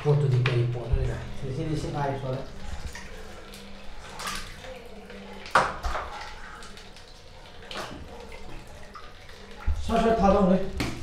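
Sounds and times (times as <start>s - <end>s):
water pouring and dripping: 0.0s - 11.0s.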